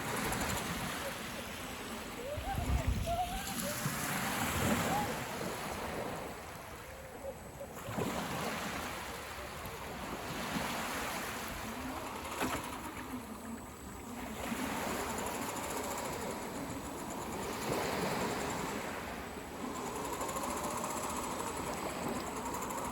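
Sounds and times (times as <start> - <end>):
sea waves washing onto beach: 0.0 - 22.9.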